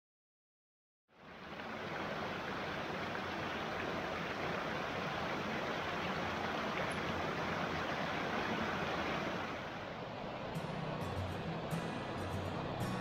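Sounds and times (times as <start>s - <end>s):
stream rushing over boulders: 1.1s - 13.0s.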